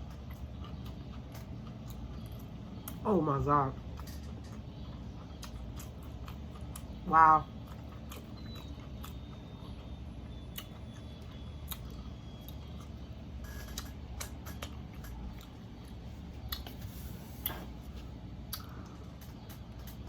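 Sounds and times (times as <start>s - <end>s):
chewing mouth clicks and smacks: 0.0s - 3.0s, 3.8s - 16.8s, 18.5s - 20.0s.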